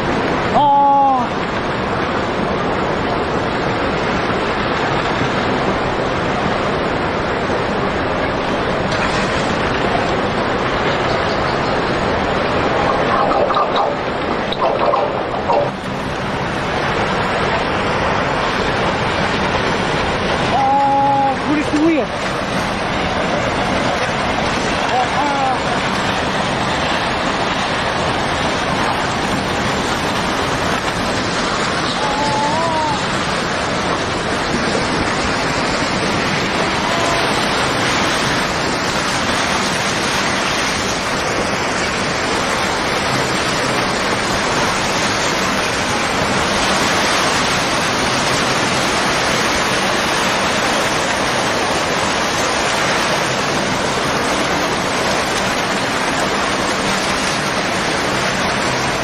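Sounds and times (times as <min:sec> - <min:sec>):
floodwater rushing: 0:00.0 - 0:59.0.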